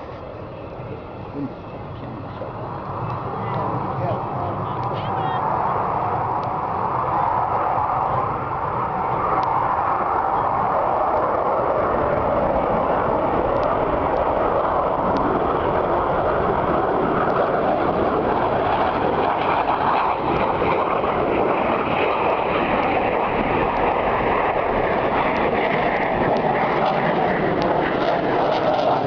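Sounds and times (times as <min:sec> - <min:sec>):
jets flying overhead: 0:00.0 - 0:29.0.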